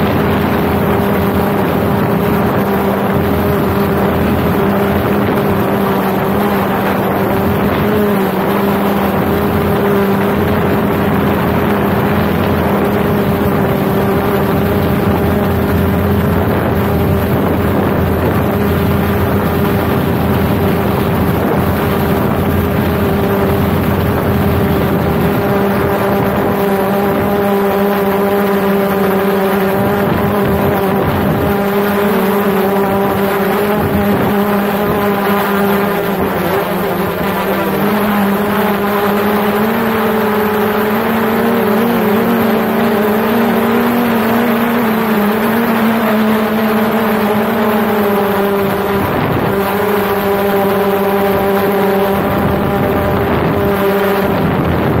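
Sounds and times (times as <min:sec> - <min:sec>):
drone propellers buzzing hum: 0:00.0 - 0:55.0.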